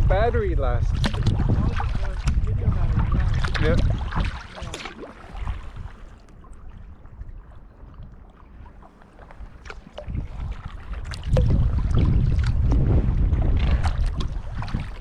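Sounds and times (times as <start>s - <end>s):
wind rumble on microphone: 0.0s - 15.0s
paddle strokes splashing in water: 0.9s - 15.0s.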